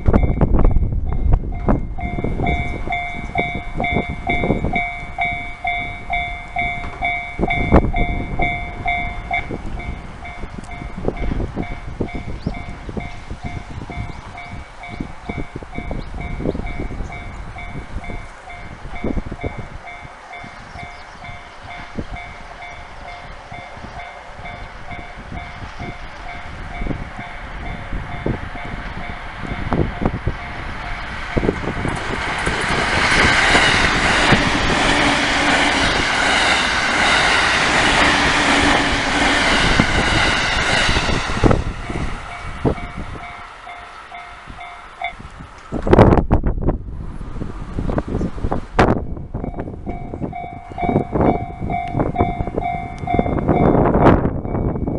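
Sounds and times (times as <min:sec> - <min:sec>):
level crossing warning bell: 0:00.0 - 0:31.8, 0:32.7 - 0:45.3, 0:49.0 - 0:54.9
train rumbling past: 0:00.0 - 0:54.9
train wheels clacking: 0:01.1 - 0:46.0.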